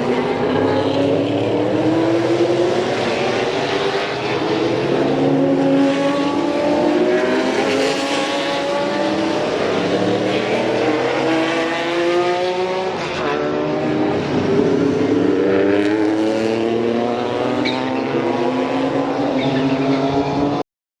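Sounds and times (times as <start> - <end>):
race car engines accelerating: 0.0 - 20.6.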